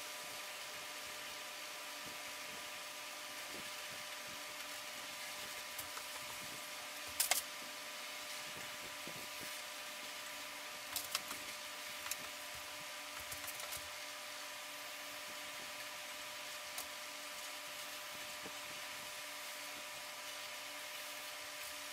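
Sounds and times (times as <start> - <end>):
room tone hiss and hum: 0.0 - 21.9.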